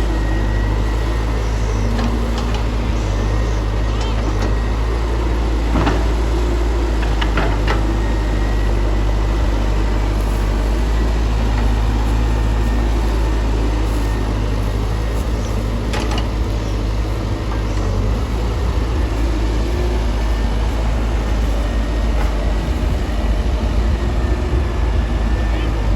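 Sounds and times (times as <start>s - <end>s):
excavator engine humming: 0.0s - 25.9s.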